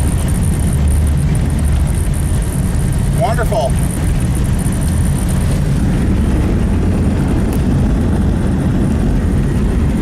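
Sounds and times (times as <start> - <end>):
road noise: 0.0 - 10.0
vehicle engine rumble: 0.0 - 10.0.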